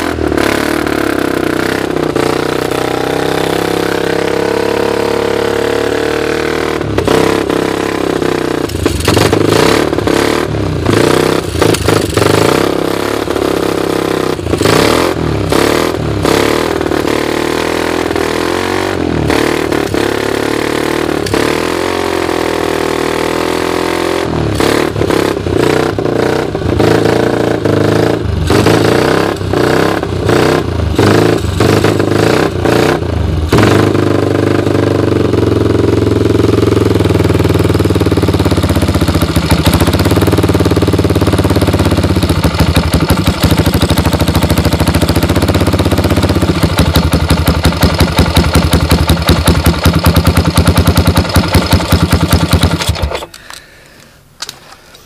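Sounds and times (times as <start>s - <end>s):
atv engine revving: 0.0s - 53.4s.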